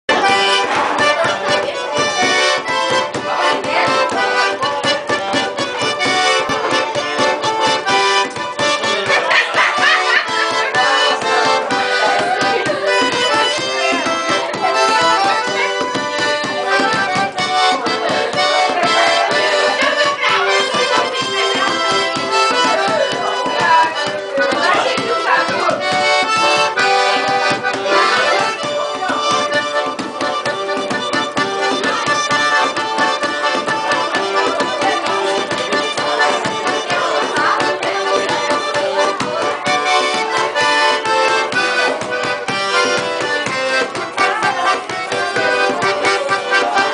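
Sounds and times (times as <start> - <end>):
accordion playing lively tune: 0.0 - 46.9
rhythmic percussion beating: 0.1 - 46.9.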